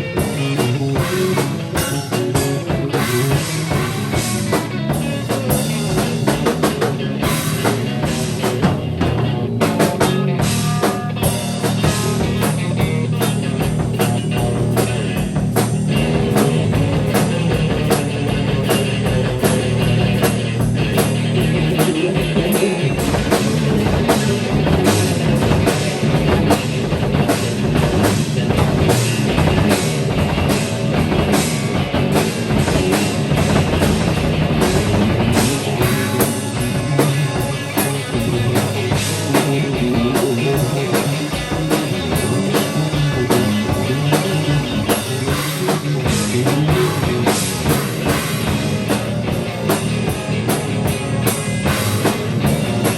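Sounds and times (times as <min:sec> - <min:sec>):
rapid drum kit hits: 0:00.0 - 0:52.9
sustained guitar: 0:00.0 - 0:52.9.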